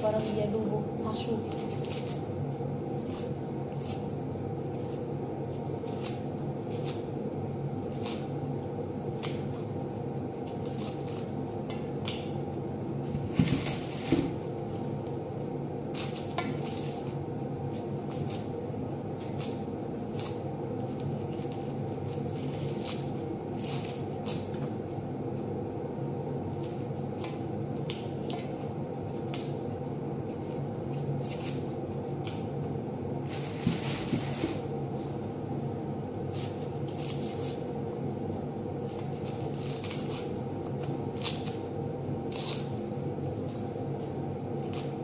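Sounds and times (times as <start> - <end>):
onion skins crackling: 0.0 - 45.0
steady low hum: 0.0 - 45.0.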